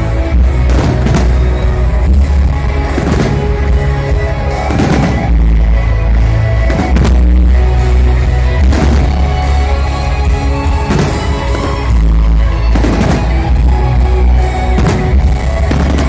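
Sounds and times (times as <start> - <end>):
fireworks bursts banging: 0.0 - 16.0
loud music with heavy bass: 0.0 - 16.0.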